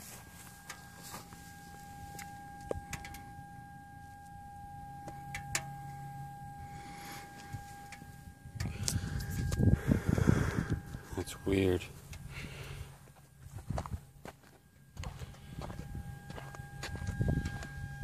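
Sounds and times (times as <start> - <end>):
high-pitched whine from fuel tank: 0.0 - 18.0.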